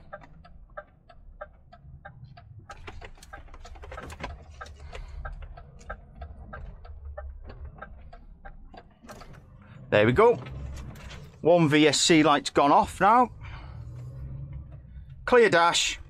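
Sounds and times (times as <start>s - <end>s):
diesel engine running: 0.0s - 16.0s
turn signal ticking: 0.0s - 16.0s.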